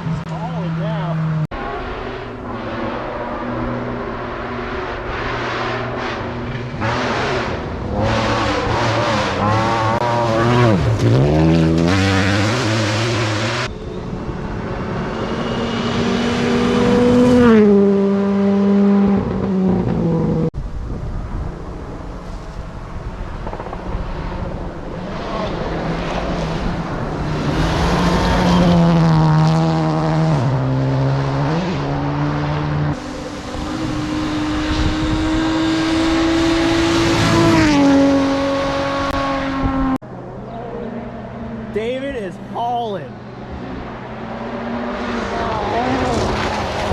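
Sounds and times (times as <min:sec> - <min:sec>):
rally car engines revving: 0:00.0 - 0:20.5, 0:23.3 - 0:46.9.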